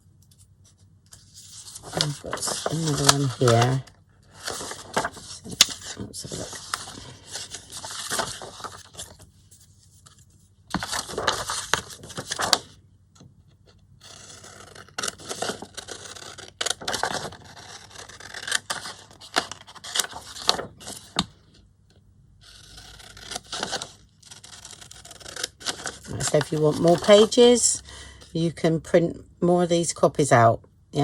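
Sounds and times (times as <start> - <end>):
paper rustling and scraping: 0.6 - 12.8, 13.6 - 21.4, 22.4 - 27.6.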